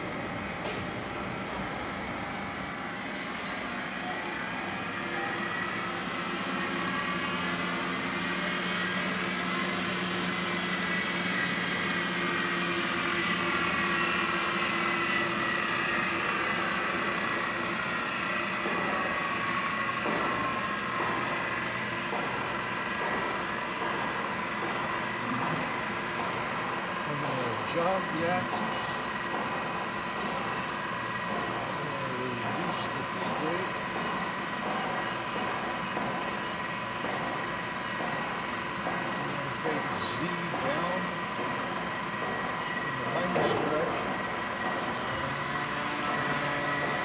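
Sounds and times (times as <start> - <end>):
milling machine motor whine: 0.0 - 47.0.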